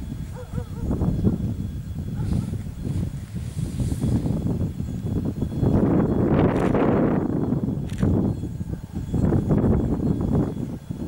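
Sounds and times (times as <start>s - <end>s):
distant diesel locomotive rumble: 0.0s - 11.0s
wind buffeting microphone: 0.0s - 11.0s.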